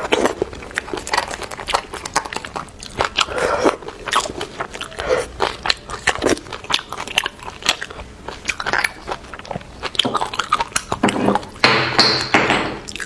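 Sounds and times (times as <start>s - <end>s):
wet chewing: 0.0s - 11.6s.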